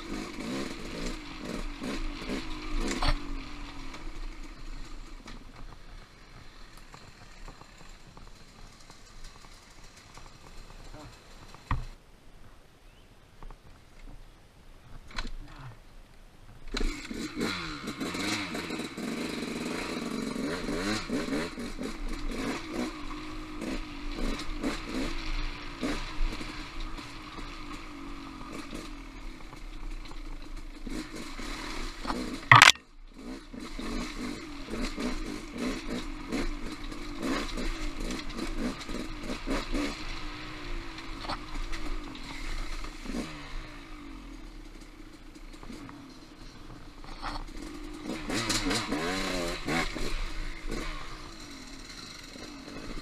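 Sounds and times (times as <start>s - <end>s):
motorcycle engine revving: 0.0s - 11.9s, 16.7s - 53.0s.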